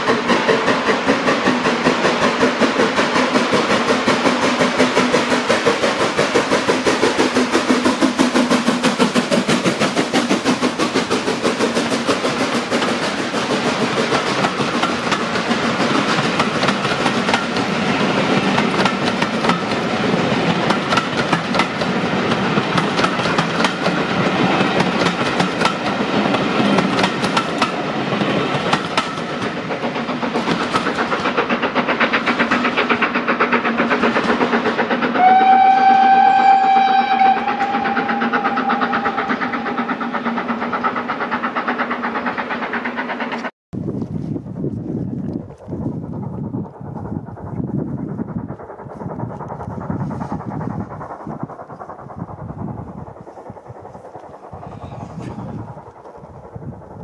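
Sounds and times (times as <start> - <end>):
train wheels clacking over rail joints: 0.0 - 43.5, 45.1 - 57.0
steam locomotive exhaust beats: 0.0 - 57.0.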